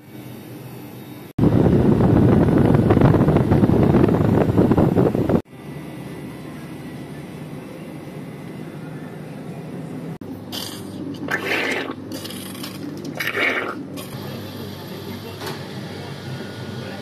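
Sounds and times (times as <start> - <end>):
condenser fan air rush: 0.0 - 17.0
machine humming: 0.0 - 17.0.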